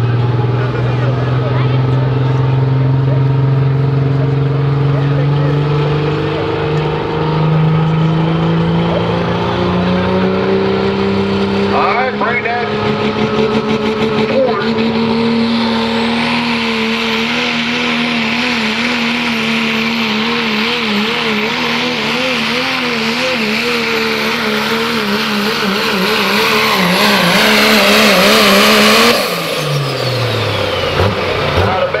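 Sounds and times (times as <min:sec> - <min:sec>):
diesel engine at full throttle: 0:00.0 - 0:32.0
turbocharger whine: 0:00.0 - 0:32.0.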